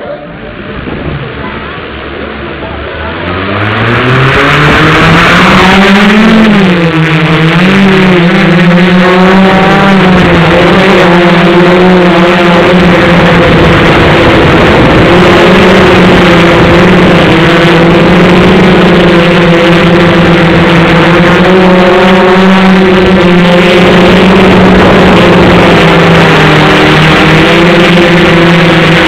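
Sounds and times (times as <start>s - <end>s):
model airplane engine running: 0.5s - 29.0s.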